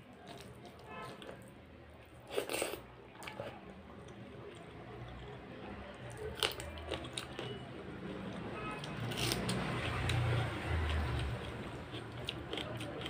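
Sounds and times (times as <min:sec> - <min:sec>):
mouth chewing: 0:00.2 - 0:01.5, 0:02.2 - 0:05.5, 0:06.1 - 0:08.4, 0:09.1 - 0:13.0.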